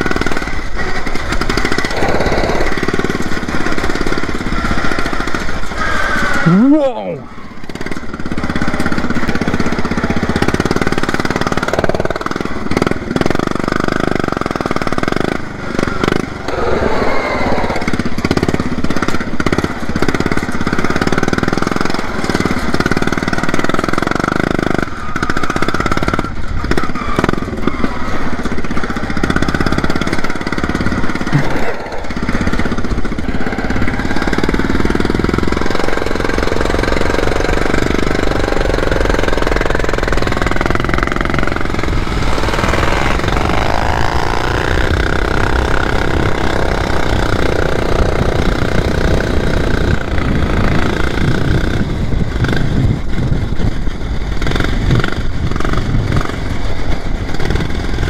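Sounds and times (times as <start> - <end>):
lawn mower engine running hard: 0.0 - 58.0.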